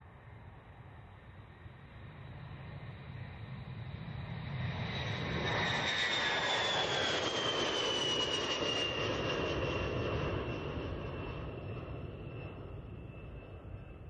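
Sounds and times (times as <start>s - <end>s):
jet engines flying past: 0.1s - 14.0s.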